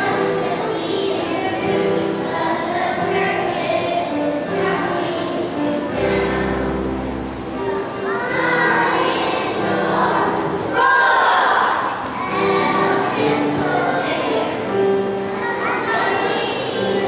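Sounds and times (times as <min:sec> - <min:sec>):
children singing together: 0:00.0 - 0:17.0
music playing: 0:00.0 - 0:17.0.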